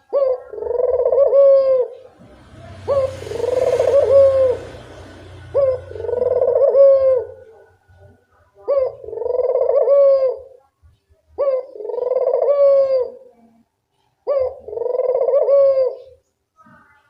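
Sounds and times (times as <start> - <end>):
dove cooing: 0.0 - 10.6, 11.4 - 13.5, 14.2 - 16.2.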